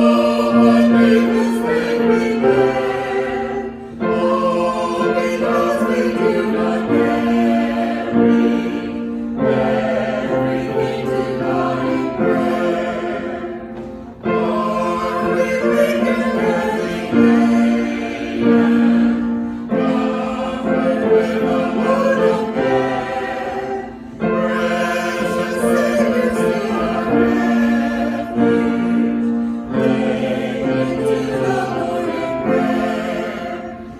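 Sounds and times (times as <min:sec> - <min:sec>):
choir singing held chords: 0:00.0 - 0:33.9.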